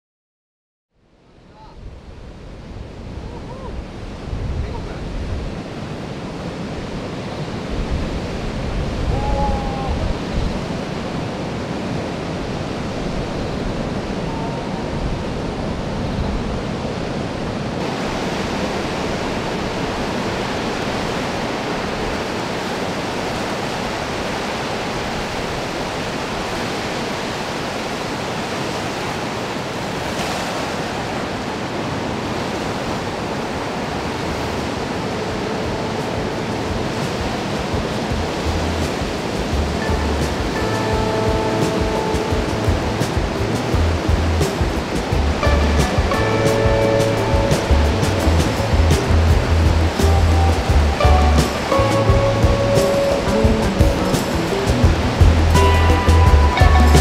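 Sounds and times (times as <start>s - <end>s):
heavy surf crashing waves: 1.2s - 57.0s.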